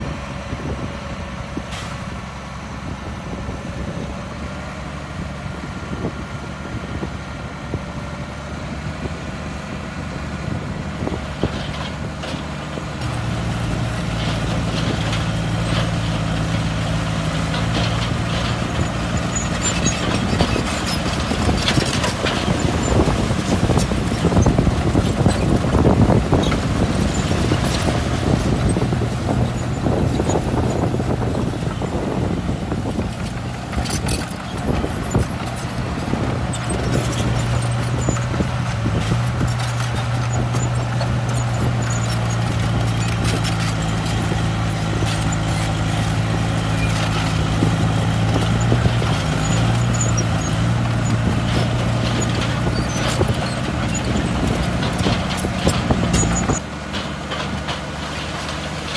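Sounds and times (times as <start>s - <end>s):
diesel engine drone: 0.0s - 58.9s
metallic clanks and clatter: 11.4s - 58.9s.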